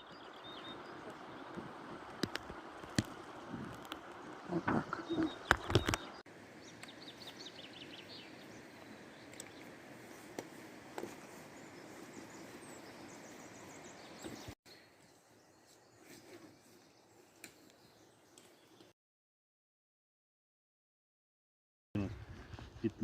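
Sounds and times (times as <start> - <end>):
birds chirping: 0.0 - 18.9
faint outdoor background noise: 0.0 - 18.9.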